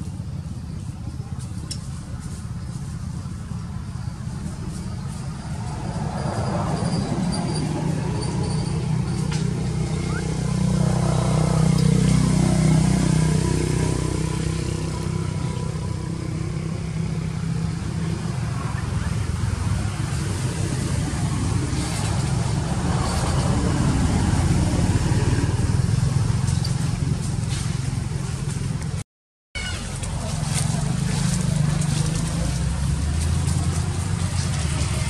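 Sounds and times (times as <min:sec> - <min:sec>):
low engine rumble: 0:00.0 - 0:29.0, 0:29.6 - 0:35.0.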